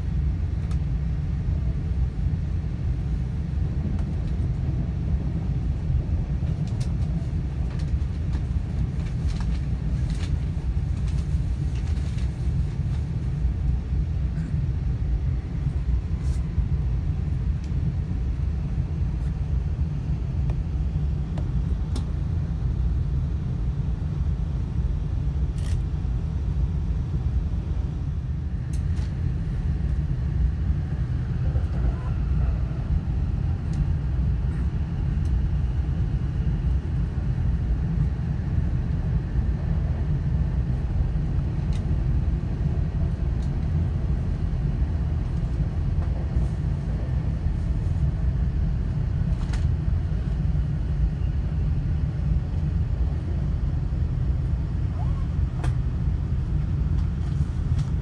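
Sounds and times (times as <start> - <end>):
train rumble inside cabin: 0.0 - 58.0.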